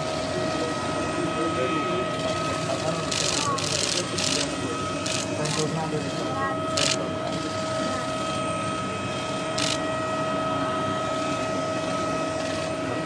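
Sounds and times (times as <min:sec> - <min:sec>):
continuous rushing noise: 0:00.0 - 0:13.0.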